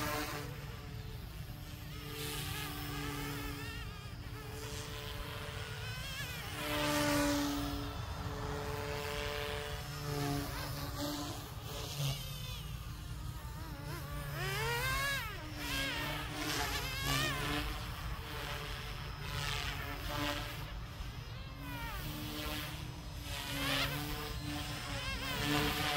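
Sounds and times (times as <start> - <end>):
rc helicopter motor and rotor whine: 0.0 - 25.9.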